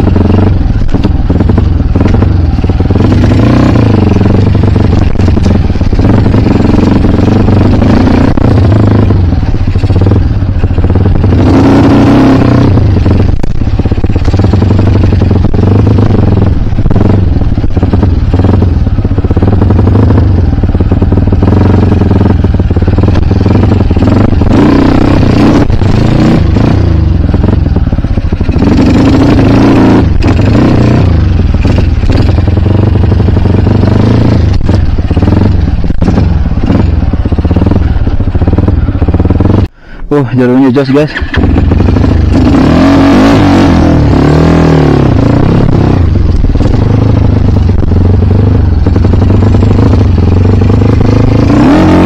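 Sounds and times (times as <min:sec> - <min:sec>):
dirt bike engine revving: 0:00.0 - 0:40.0, 0:40.6 - 0:52.0.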